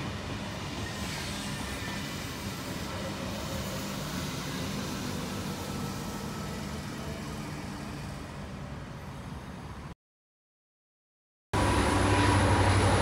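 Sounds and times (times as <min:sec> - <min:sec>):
electric passenger train running past: 0:00.0 - 0:09.9, 0:11.6 - 0:13.0.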